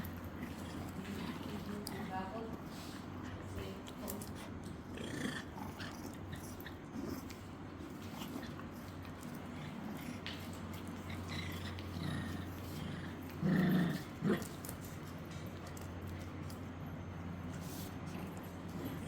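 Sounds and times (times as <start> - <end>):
puppies growling softly: 0.0 - 19.0.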